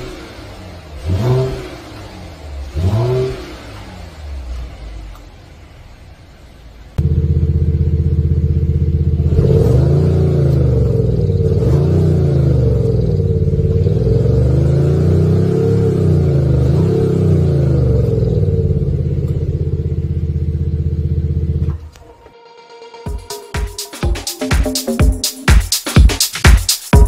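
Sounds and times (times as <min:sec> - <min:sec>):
car engine revving and idling: 0:00.0 - 0:22.4.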